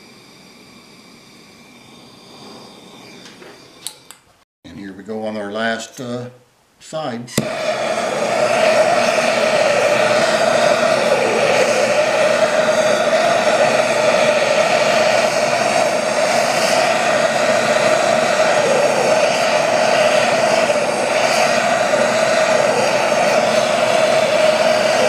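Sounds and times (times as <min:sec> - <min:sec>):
gas torch flame rushing: 0:00.0 - 0:04.3, 0:07.3 - 0:25.0.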